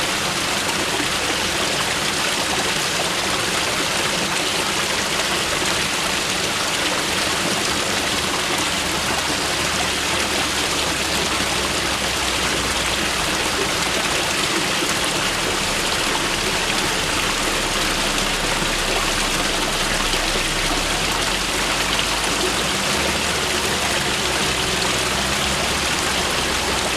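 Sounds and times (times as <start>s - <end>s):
river rushing over rocks: 0.0s - 26.9s.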